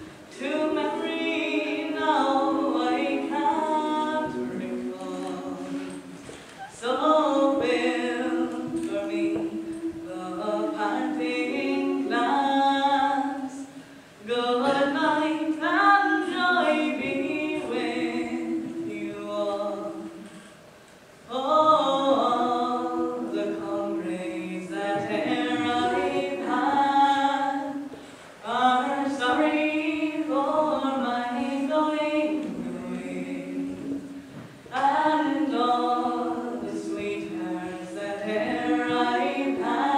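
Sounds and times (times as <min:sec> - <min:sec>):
girls' choir singing a cappella: 0:00.0 - 0:20.6, 0:21.2 - 0:39.9.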